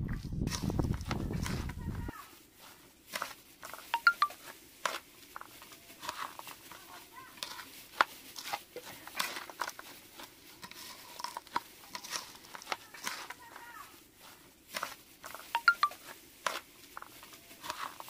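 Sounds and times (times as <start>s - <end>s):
puffed rice stirred on metal plate: 0.4s - 18.0s.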